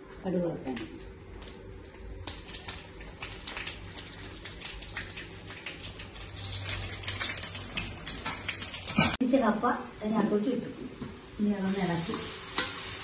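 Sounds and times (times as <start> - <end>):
hot oil crackling and popping: 0.0 - 9.2, 11.4 - 13.0.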